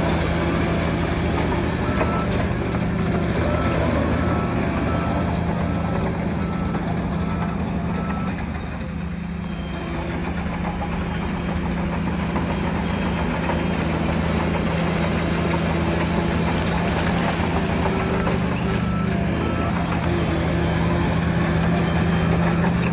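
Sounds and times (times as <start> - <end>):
heavy diesel engine running: 0.0 - 22.9
reversing alarm beeping: 0.3 - 14.2, 16.0 - 22.9.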